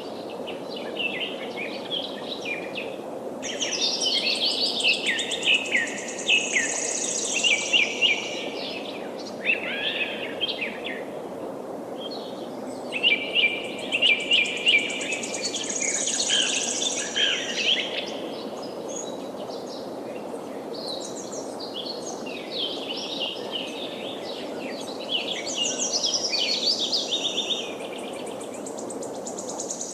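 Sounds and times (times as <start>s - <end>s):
flowing river water: 0.0s - 29.9s.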